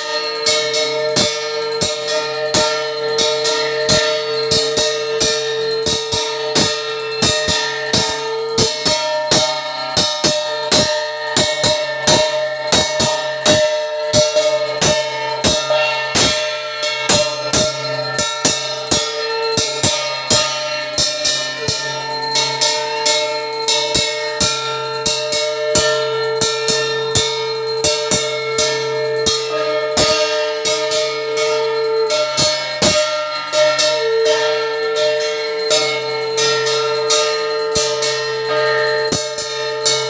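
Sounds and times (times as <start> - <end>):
conch shell blown in long notes: 0.0 - 40.0
metal bell struck quickly: 0.0 - 40.0.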